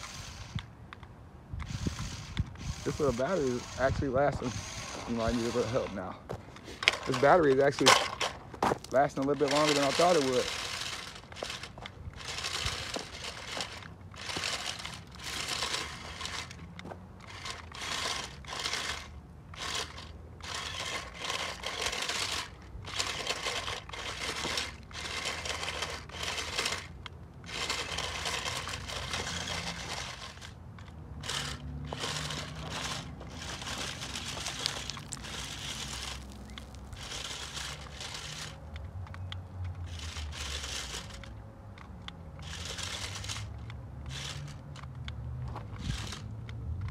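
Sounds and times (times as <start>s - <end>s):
toy car crunching over gravel: 0.0s - 0.6s, 1.6s - 38.7s, 39.8s - 41.4s, 42.4s - 44.8s, 45.4s - 46.9s.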